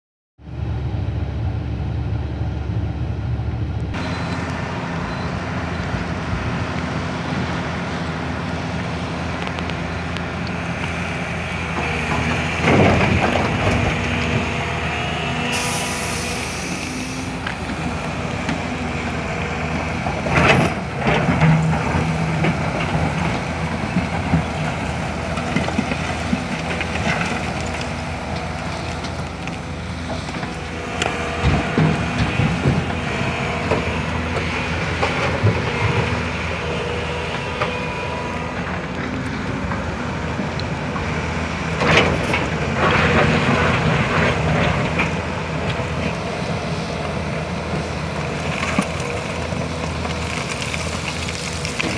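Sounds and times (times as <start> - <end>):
heavy diesel engines running: 0.4 - 51.9.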